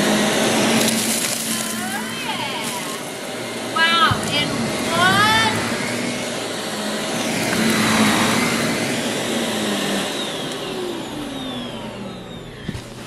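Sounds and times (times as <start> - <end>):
vacuum cleaner running on carpet: 0.0 - 13.0
vacuum sucking up chips: 0.0 - 13.0.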